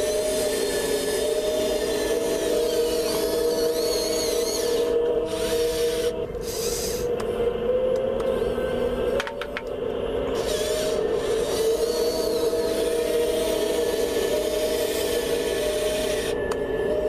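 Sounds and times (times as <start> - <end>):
high-pitched servo whines: 0.0 - 9.1, 10.1 - 17.0
electric motors humming: 0.0 - 17.0.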